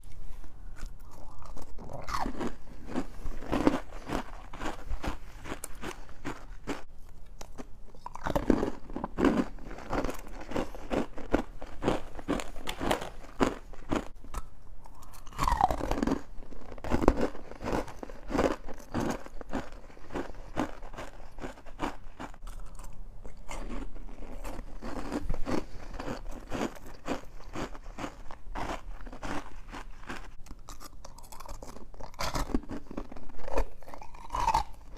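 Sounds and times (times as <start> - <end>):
crunching and chewing frost: 0.1 - 34.9.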